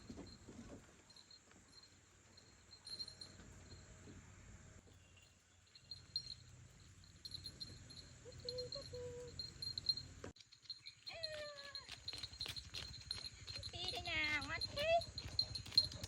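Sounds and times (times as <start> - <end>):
faint cricket chirping: 0.0 - 16.0.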